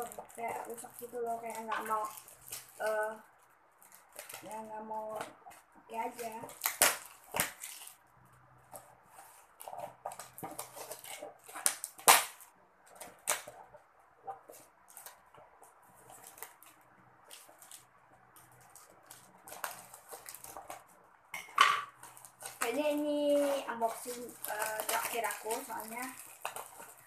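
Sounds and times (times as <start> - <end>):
plastic wrap crinkling: 0.0 - 27.0.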